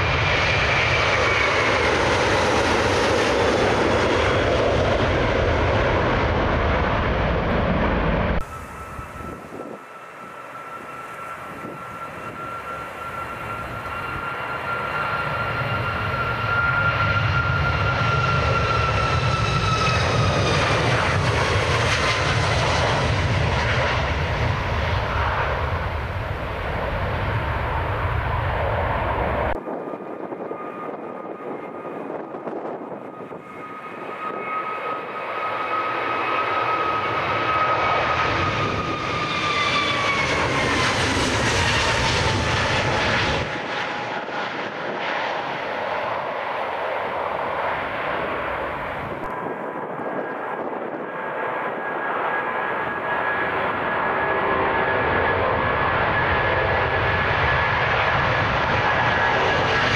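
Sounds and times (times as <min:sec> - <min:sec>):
jet engines roaring on takeoff: 0:00.0 - 0:59.9.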